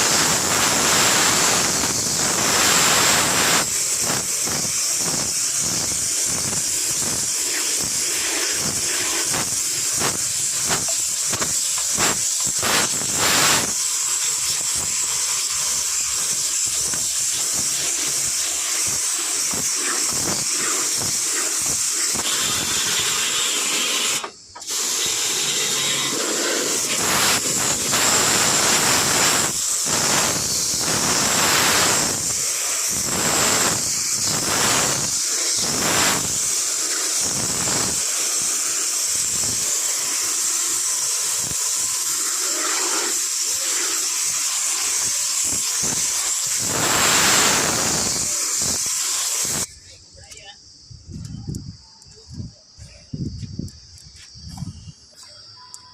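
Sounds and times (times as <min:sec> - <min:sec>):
high-pressure jet hissing: 0:00.0 - 0:49.7.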